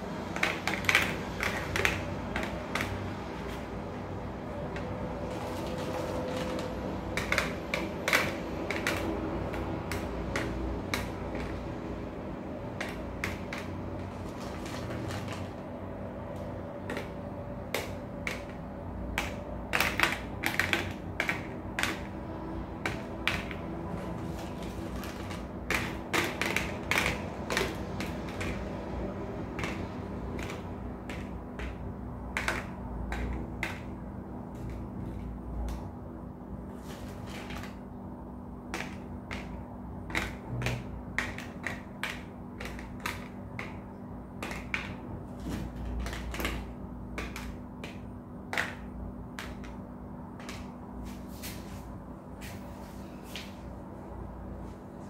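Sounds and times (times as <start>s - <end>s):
raisins clicking on plastic: 0.0s - 3.7s, 4.5s - 35.9s, 38.6s - 49.8s
steady low hum: 0.0s - 55.0s.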